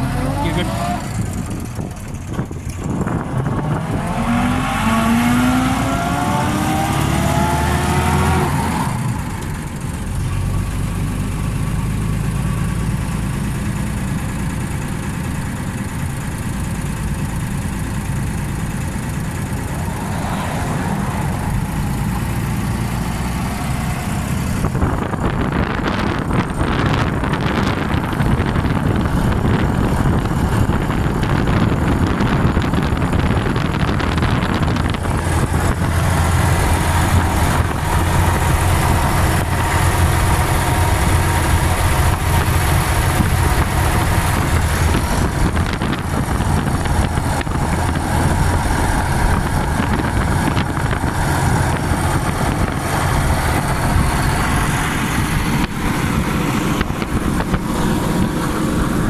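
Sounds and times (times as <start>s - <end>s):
car engine running: 0.0s - 59.0s
road noise: 0.0s - 59.0s
wind noise: 1.0s - 11.7s, 17.2s - 59.0s.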